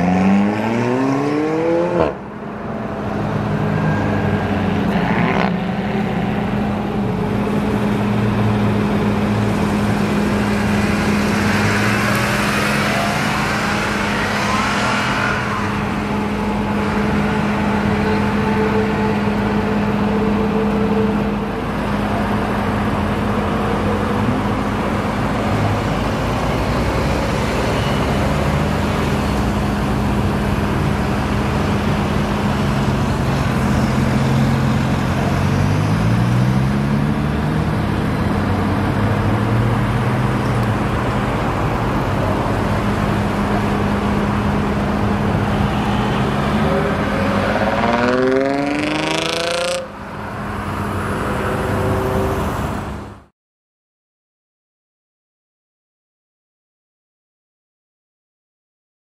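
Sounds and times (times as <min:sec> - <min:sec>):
car engines accelerating: 0:00.0 - 0:53.2
steady engine drone: 0:00.0 - 0:53.2.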